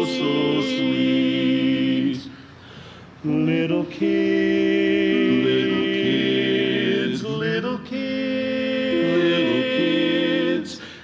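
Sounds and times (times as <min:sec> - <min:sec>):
male quartet singing a cappella: 0:00.0 - 0:02.5, 0:03.2 - 0:11.0.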